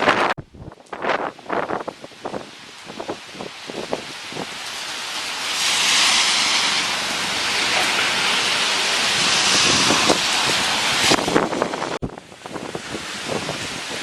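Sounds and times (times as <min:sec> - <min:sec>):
wind gusting hard: 0:00.0 - 0:14.0.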